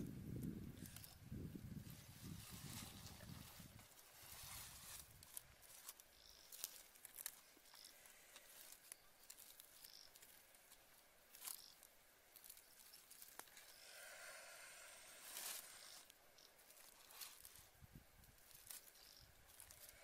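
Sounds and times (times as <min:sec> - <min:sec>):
faint rustling: 0:00.8 - 0:20.0.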